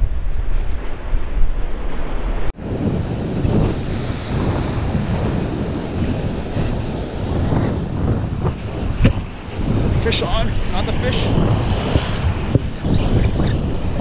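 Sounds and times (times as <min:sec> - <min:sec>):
surf washing on rocky shore: 0:00.0 - 0:14.0
wind buffeting microphone: 0:00.0 - 0:14.0.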